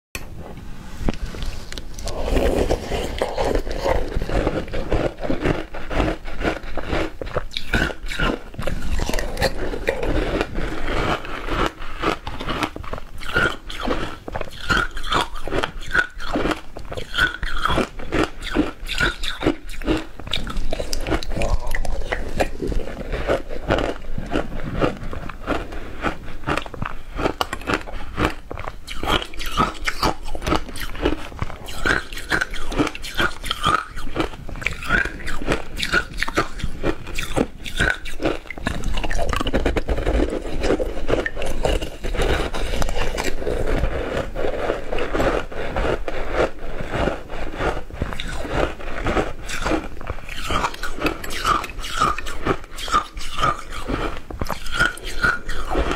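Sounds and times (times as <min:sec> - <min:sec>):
person crunching ice: 0:01.2 - 0:55.9.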